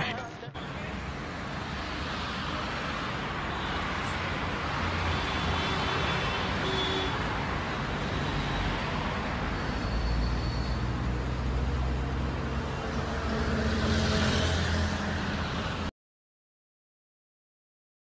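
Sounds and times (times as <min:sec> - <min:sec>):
cars driving past on highway: 0:00.1 - 0:15.9.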